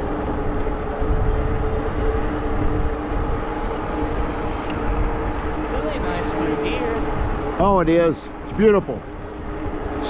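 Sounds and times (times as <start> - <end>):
electric motor humming: 0.0 - 10.0
wind buffeting microphone: 0.0 - 10.0.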